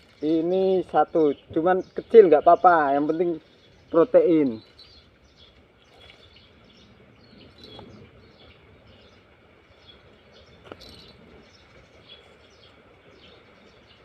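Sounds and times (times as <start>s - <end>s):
bird chirps: 0.0s - 14.0s
insect calls: 0.0s - 14.0s.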